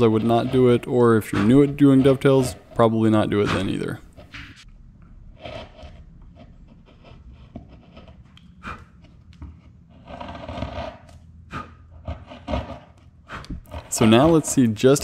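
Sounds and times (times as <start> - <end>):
chisel scraping wood: 0.0 - 4.6, 5.3 - 15.0.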